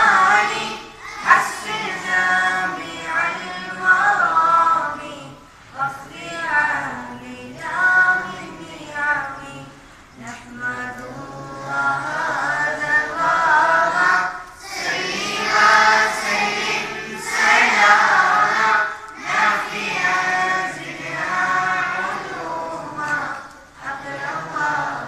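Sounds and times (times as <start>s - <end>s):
children singing in unison: 0.0s - 25.0s.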